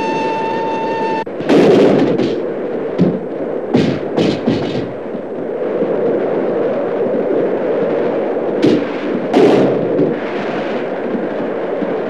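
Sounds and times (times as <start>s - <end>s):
train rushing at speed: 0.0s - 12.0s.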